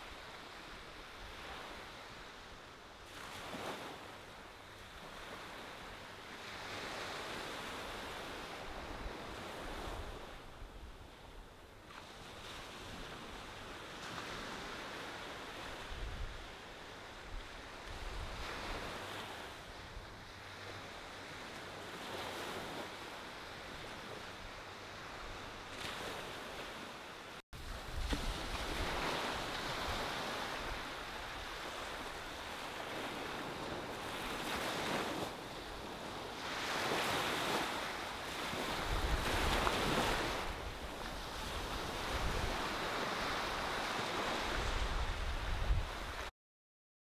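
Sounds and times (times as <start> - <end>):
ocean waves breaking on beach: 0.0 - 46.3
wind rumbling on microphone: 6.5 - 26.8, 27.6 - 46.3.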